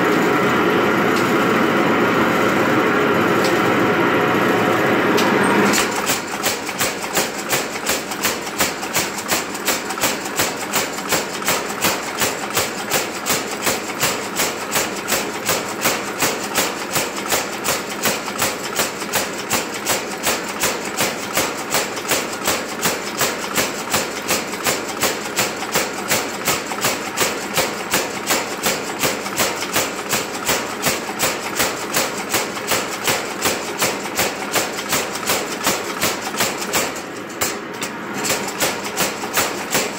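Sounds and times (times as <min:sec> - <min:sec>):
power hammer striking steel: 0:05.7 - 0:39.9.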